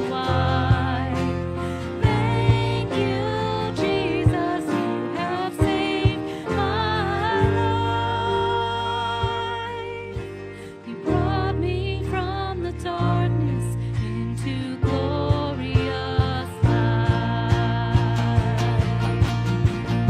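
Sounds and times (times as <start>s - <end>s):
bass: 0.0s - 20.0s.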